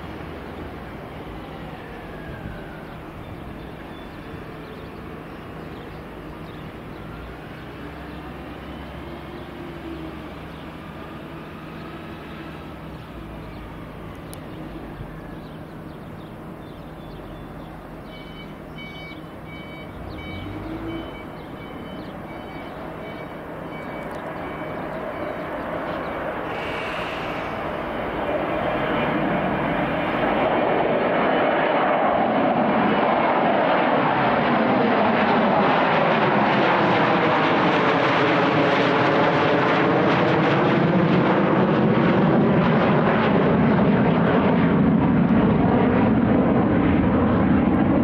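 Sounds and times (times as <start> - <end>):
distant jet engines rumbling: 0.0 - 48.0.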